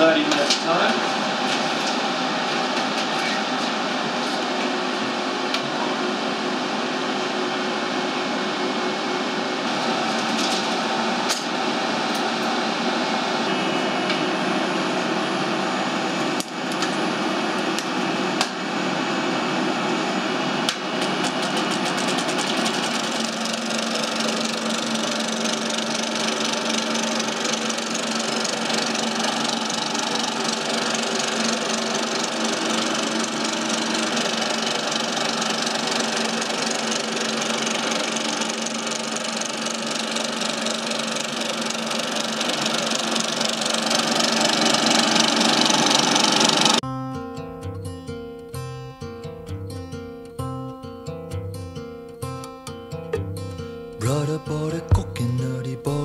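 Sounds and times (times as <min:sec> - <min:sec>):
film projector whirring: 0:00.0 - 0:46.8.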